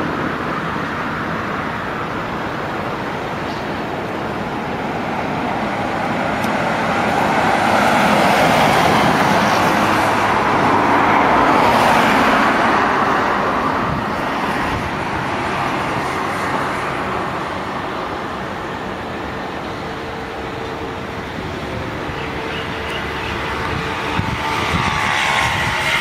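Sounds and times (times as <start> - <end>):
high whine: 0.0 - 26.0
passing cars: 0.0 - 26.0.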